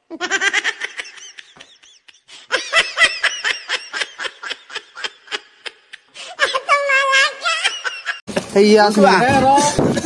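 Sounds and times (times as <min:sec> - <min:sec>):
person laughing: 0:00.0 - 0:08.2.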